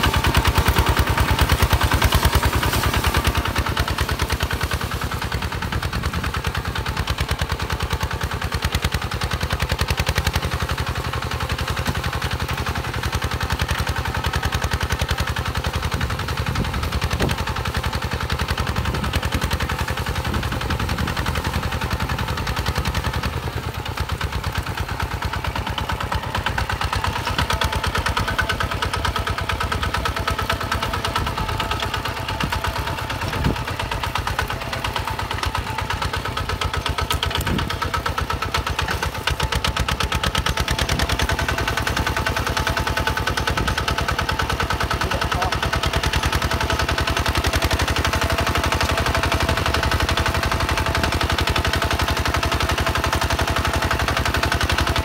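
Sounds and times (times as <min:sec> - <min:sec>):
diesel tractor engine popping: 0:00.0 - 0:55.0.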